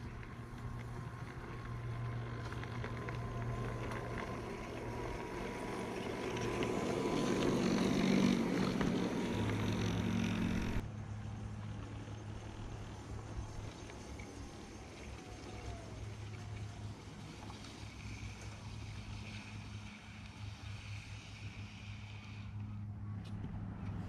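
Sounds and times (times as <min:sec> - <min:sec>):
model tram motor whine: 0:00.0 - 0:20.2.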